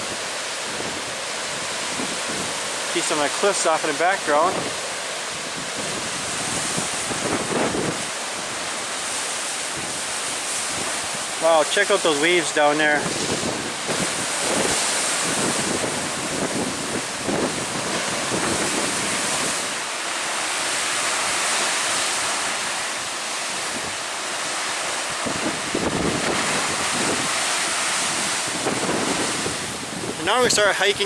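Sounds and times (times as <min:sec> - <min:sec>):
wind buffeting microphone: 0:00.0 - 0:03.1, 0:04.3 - 0:11.4, 0:12.8 - 0:19.8, 0:20.6 - 0:31.0
waves breaking on shore: 0:00.0 - 0:31.0.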